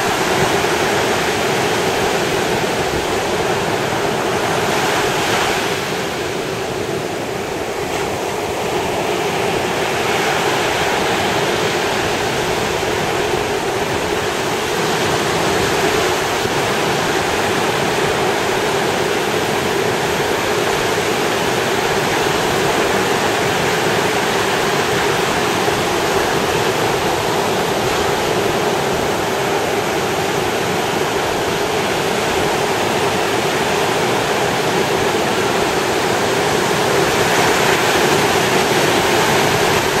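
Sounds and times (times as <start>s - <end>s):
ocean waves breaking on beach: 0.0s - 40.0s.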